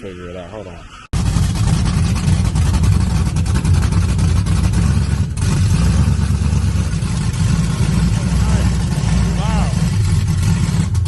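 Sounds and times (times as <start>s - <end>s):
car engine deep rumble: 1.1s - 11.0s.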